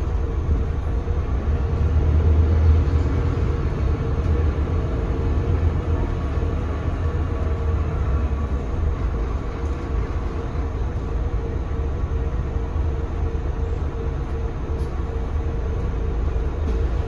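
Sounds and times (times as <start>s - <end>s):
bus diesel engine rumbling: 0.0s - 17.0s
road noise: 0.0s - 17.0s.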